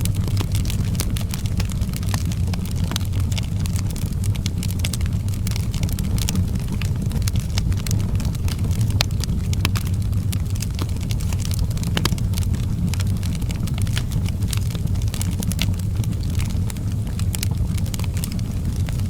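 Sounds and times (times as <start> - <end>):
low fire rumble: 0.0 - 19.0
wood fire crackling: 0.0 - 19.0.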